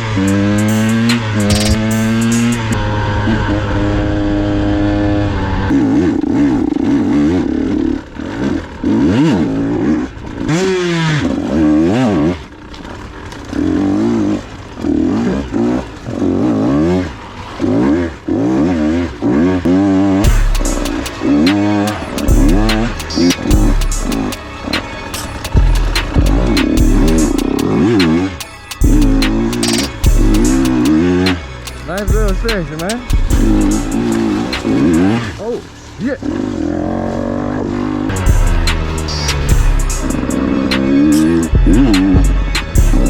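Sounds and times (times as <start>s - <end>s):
two-stroke dirt bike engine revving: 0.0s - 43.0s.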